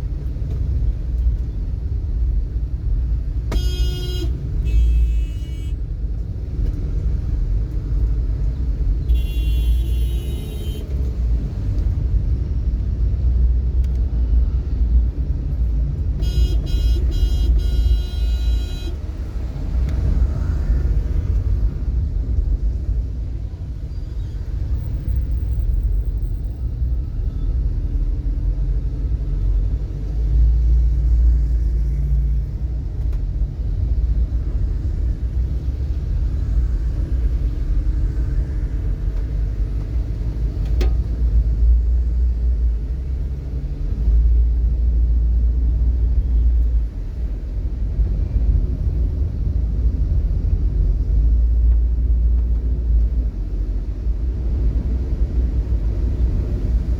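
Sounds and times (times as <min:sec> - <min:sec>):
vehicle rumble in traffic: 0:00.0 - 0:56.9.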